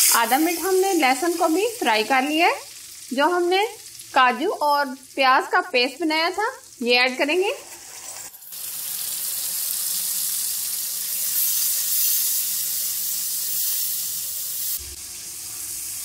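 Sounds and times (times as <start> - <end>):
paste sizzling in hot ghee: 0.0 - 16.0.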